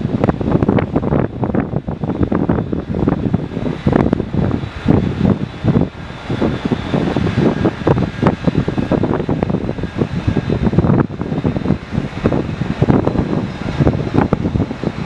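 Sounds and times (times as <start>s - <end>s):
wind buffeting microphone: 0.0s - 15.0s
faint high whine: 0.1s - 15.0s.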